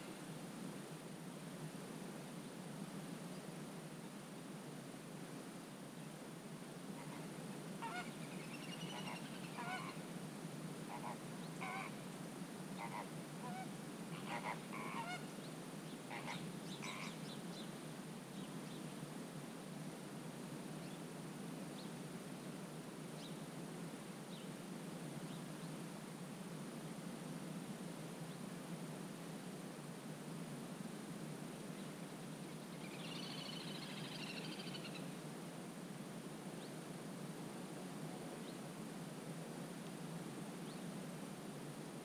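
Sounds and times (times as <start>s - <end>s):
low background hiss: 0.0s - 42.0s.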